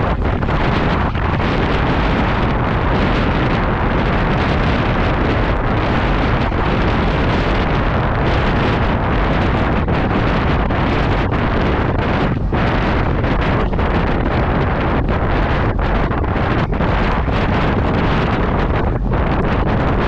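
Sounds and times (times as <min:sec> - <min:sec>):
strong wind on microphone: 0:00.0 - 0:20.0.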